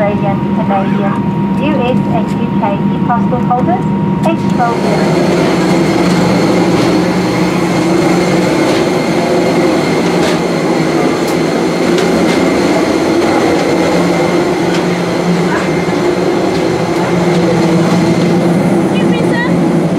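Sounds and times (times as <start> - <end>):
aircraft auxiliary power unit drone: 0.0 - 19.9.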